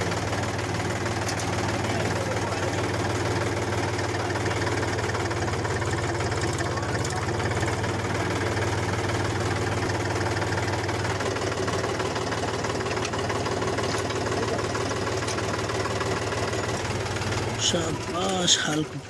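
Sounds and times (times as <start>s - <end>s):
small tractor engine running: 0.0s - 19.0s.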